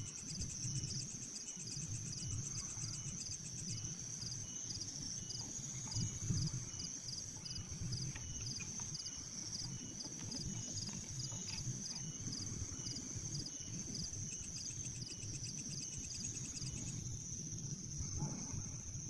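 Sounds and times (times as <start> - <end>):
high-pitched insect buzz: 0.0 - 18.2
insects chirping: 0.0 - 19.0
pulsing insect trill: 0.0 - 19.0.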